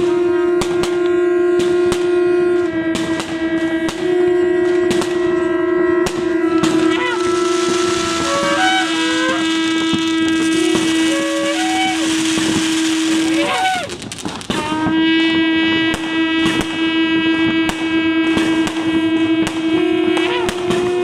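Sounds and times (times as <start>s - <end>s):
firework bangs and crackles: 0.0s - 21.0s
shofar blasts: 0.0s - 21.0s.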